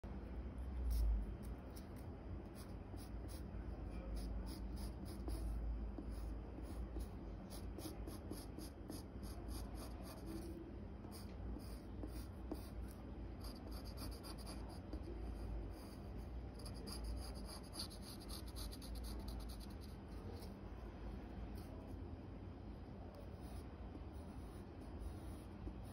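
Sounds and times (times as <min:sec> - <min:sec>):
pencil scratching on paper: 0:00.9 - 0:20.5, 0:23.2 - 0:25.9.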